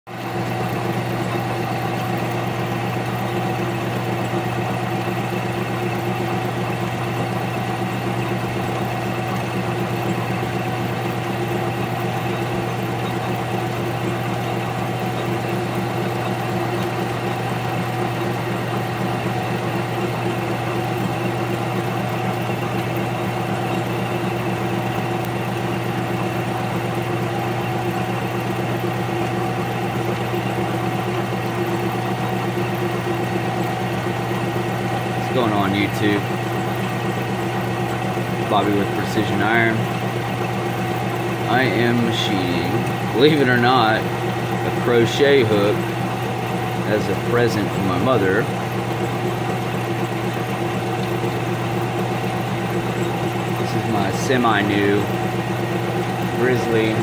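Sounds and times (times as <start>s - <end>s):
gear whine: 0.1s - 57.0s
lathe motor hum: 0.1s - 57.0s.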